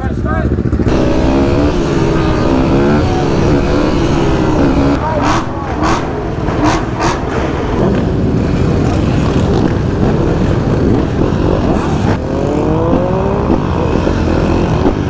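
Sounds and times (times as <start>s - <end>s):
engines running loudly: 0.0s - 15.0s
engine revving up: 0.9s - 15.0s.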